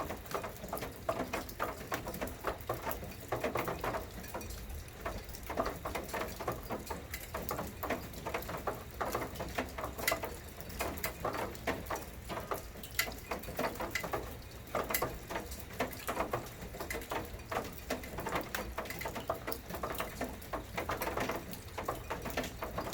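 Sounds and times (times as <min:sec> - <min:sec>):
raindrops pattering: 0:00.0 - 0:22.9.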